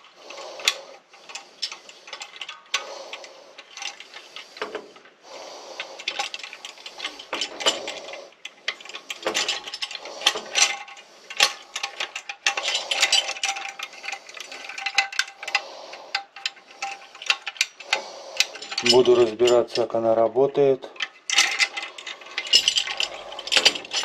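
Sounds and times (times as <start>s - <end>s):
metallic clanks of winch: 0.0s - 24.0s.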